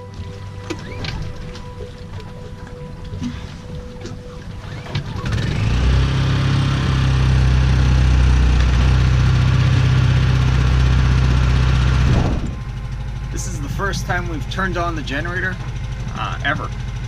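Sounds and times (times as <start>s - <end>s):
generator engine starting and running: 0.0s - 17.0s.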